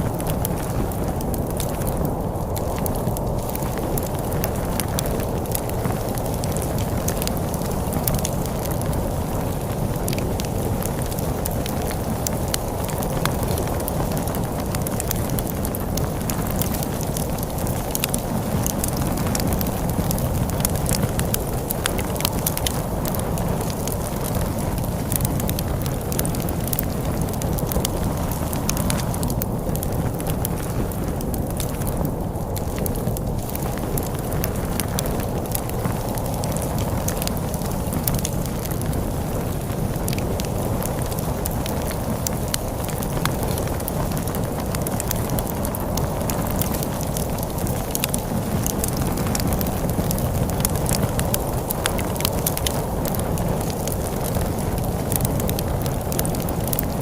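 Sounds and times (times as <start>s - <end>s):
storm wind rumbling: 0.0s - 57.0s
wood fire crackling: 0.0s - 57.0s.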